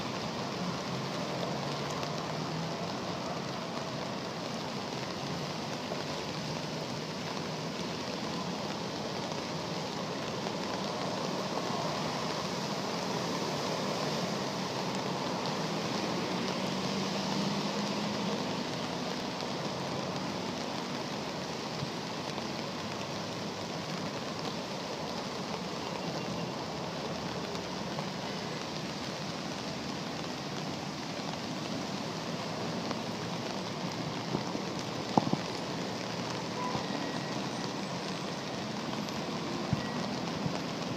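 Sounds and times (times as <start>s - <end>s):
rain falling on flood water: 0.0s - 40.9s.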